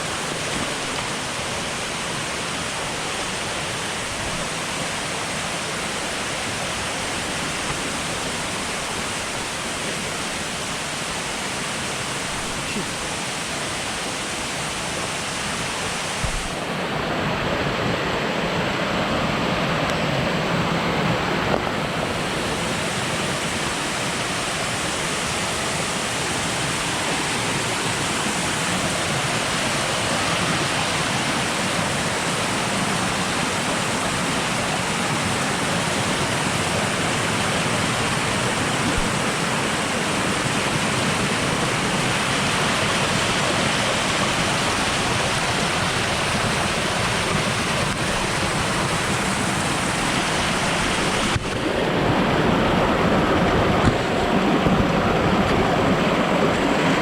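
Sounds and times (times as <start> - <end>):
rushing water roar: 0.0 - 57.0.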